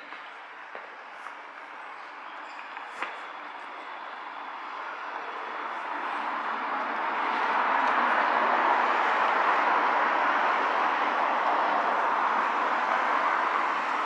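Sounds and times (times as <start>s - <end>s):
street vehicle noise: 0.0s - 14.0s.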